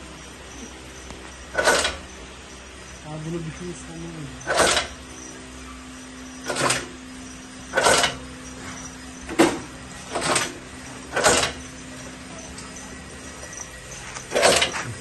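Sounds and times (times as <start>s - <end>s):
steady machine hum: 0.0s - 15.0s
machine short strokes: 0.5s - 3.7s, 4.4s - 5.4s, 6.0s - 15.0s.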